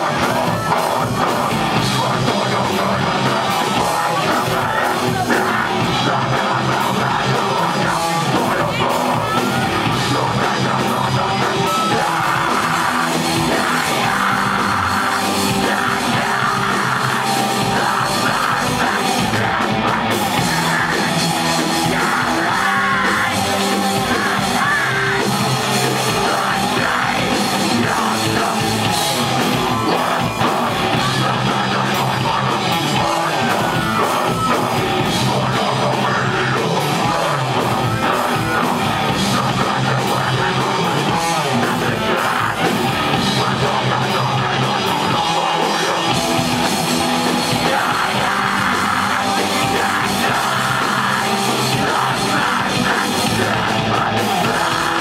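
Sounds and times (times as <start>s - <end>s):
live metal band playing: 0.0s - 55.0s.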